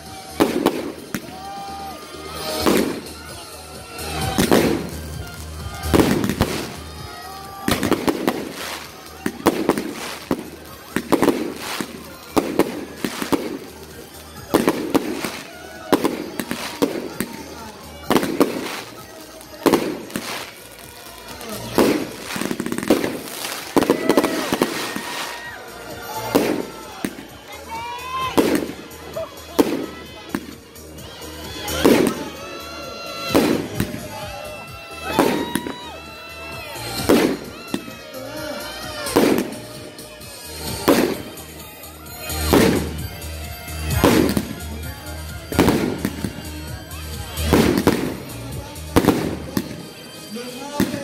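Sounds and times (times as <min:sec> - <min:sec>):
fireworks bangs with crackle: 0:00.0 - 0:51.0.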